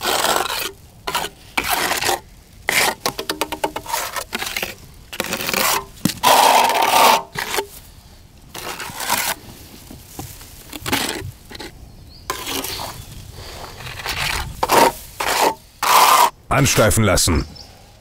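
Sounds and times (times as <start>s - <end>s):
trowel scraping plaster: 0.0s - 7.8s, 8.5s - 9.6s, 10.2s - 16.4s.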